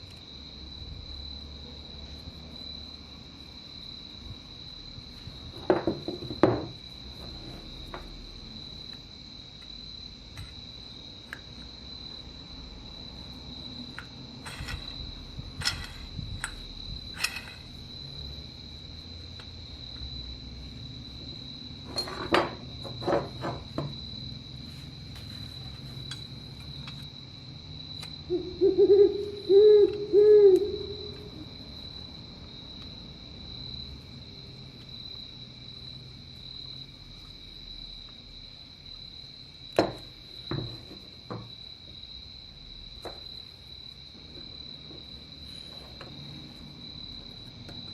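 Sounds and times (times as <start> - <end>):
high insect trill: 0.0 - 47.9.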